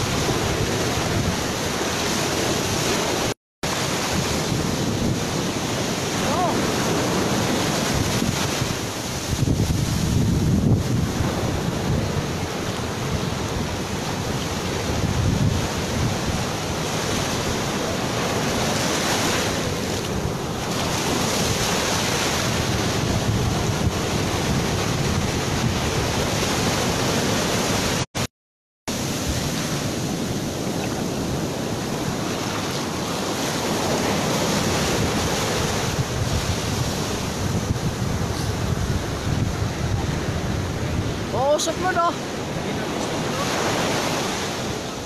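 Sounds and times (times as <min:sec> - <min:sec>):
wind buffeting microphone: 0:00.0 - 0:28.0, 0:28.9 - 0:45.0
ocean surf washing over beach: 0:00.0 - 0:28.3, 0:28.9 - 0:45.0.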